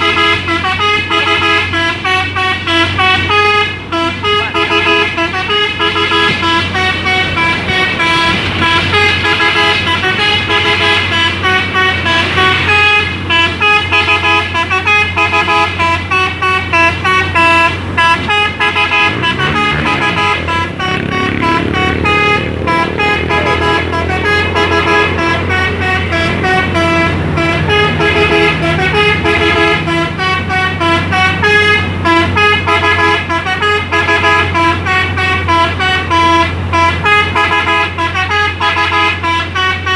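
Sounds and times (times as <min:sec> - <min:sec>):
musical air horns playing tune: 0:00.0 - 0:39.9.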